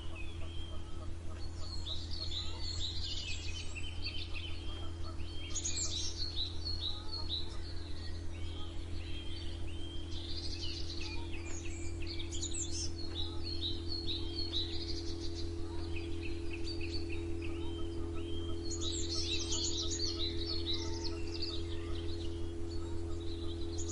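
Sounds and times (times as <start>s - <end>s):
low hum: 0.0s - 23.9s
songbirds chirping: 0.0s - 23.9s.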